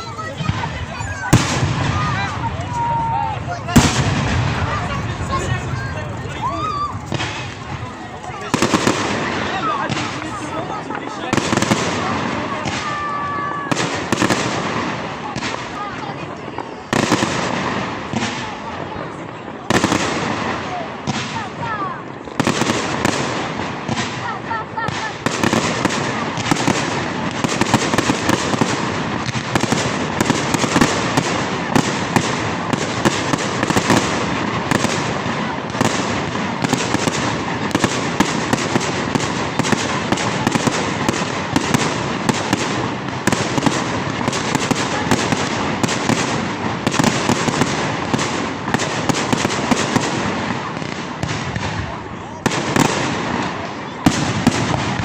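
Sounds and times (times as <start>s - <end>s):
fireworks cracks and bangs: 0.0s - 55.0s.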